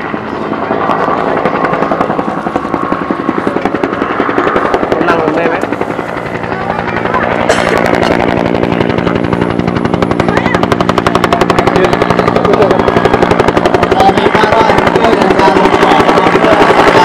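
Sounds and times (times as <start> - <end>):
helicopter engine hum: 0.0 - 17.0
helicopter rotor thudding: 0.0 - 17.0.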